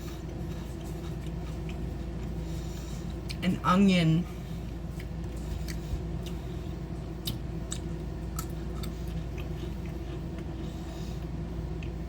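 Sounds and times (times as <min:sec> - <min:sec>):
person chewing crisps: 0:00.0 - 0:03.4, 0:04.6 - 0:12.0.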